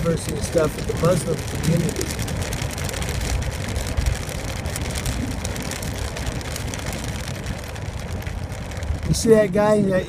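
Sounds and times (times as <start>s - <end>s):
car road noise on wet road: 0.0s - 10.0s
raindrop ticks: 0.0s - 10.0s.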